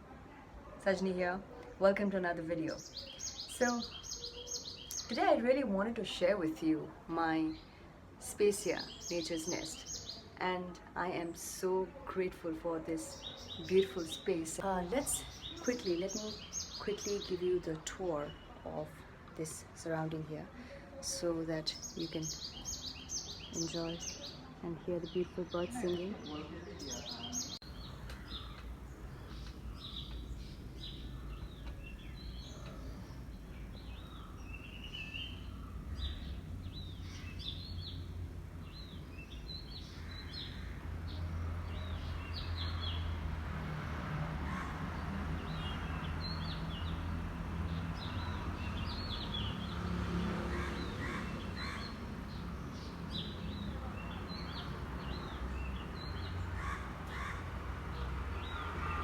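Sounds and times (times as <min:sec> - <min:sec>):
small birds chirping: 0:00.8 - 0:59.0.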